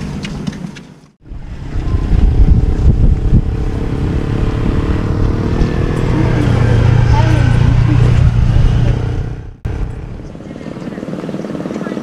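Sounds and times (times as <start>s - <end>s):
engine hum: 0.0s - 12.0s
wind buffeting microphone: 1.2s - 12.0s.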